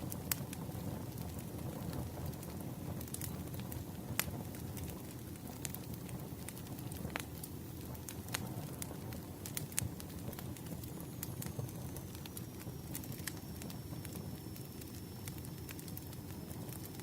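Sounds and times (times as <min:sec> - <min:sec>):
burning wood crackling and popping: 0:00.0 - 0:17.0
campfire flames rumbling: 0:00.0 - 0:17.0.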